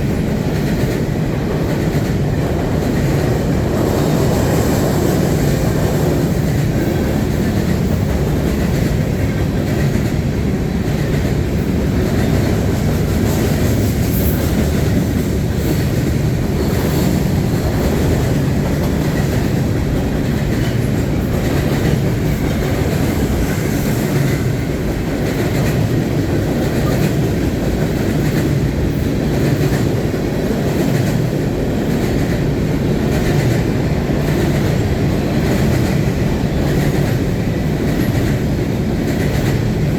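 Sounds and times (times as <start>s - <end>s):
freight train rumbling past: 0.0s - 39.9s
steel wheels clattering on rails: 0.0s - 39.9s.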